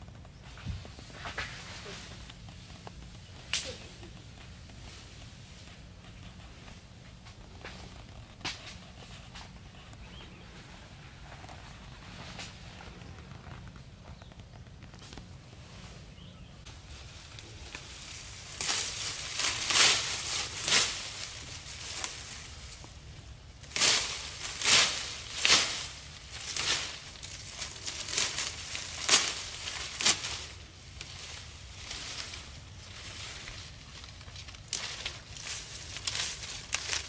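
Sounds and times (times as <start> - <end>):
branches and grass rustling: 0.0 - 37.0.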